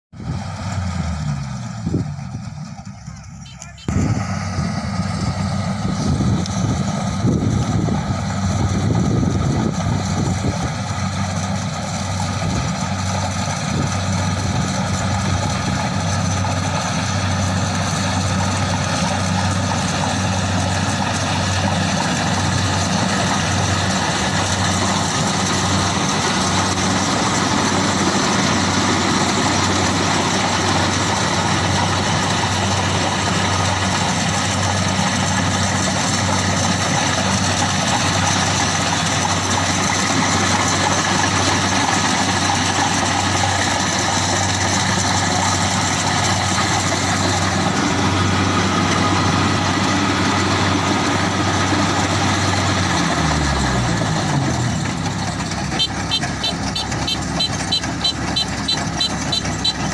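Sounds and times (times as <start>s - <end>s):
combine harvester engine droning: 0.2s - 59.9s.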